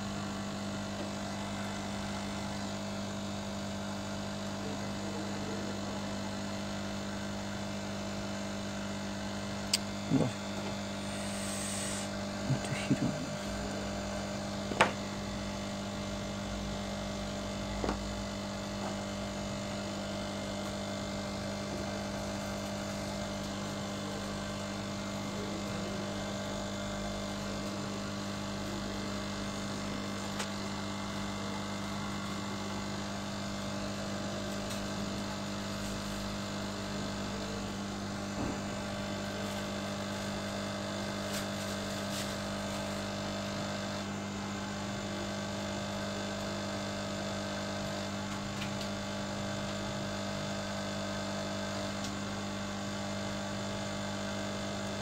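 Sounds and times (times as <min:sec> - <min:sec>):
electrical hum with steady tones: 0:00.0 - 0:55.0.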